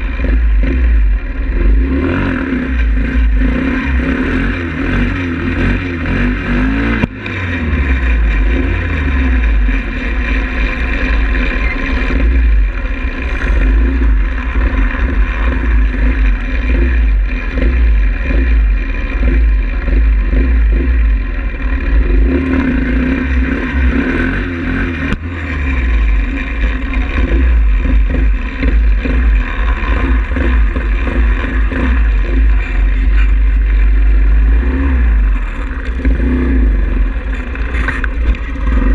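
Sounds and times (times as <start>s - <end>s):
heavy low rumble: 0.0s - 38.9s
pit bike engine running: 0.0s - 38.9s.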